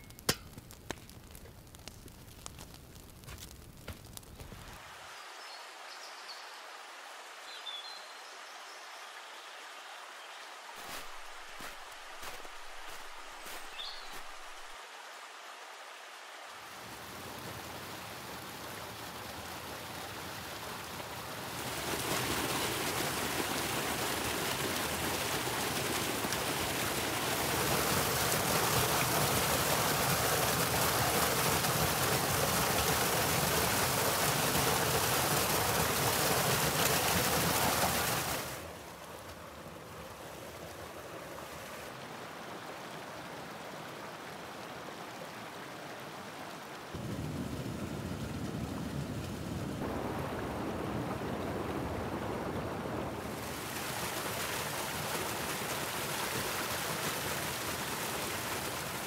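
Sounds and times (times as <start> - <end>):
stream rushing over rocks: 4.4 - 47.3, 47.9 - 59.0.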